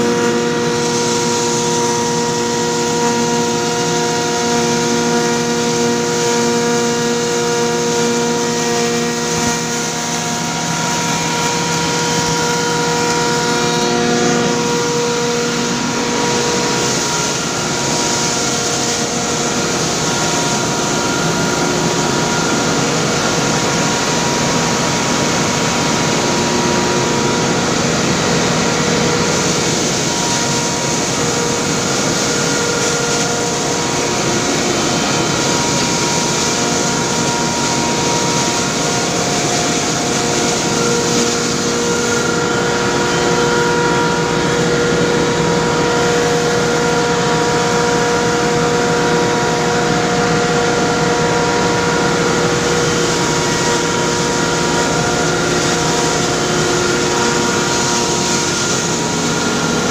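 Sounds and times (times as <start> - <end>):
grinder mill running: 0.0 - 59.9.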